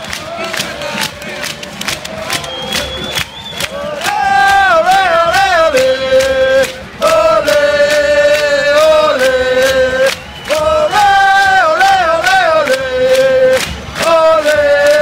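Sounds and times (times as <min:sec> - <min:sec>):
crowd singing a chant: 0:00.0 - 0:15.0
percussive beat: 0:00.0 - 0:15.0.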